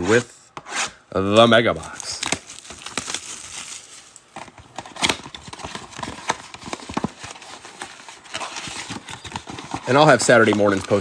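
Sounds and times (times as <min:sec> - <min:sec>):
foil packs crinkling: 0:01.6 - 0:11.0.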